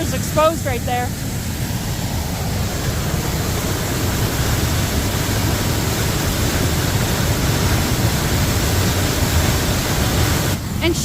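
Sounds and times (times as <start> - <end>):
loud rush of waterfall: 0.0 - 11.0.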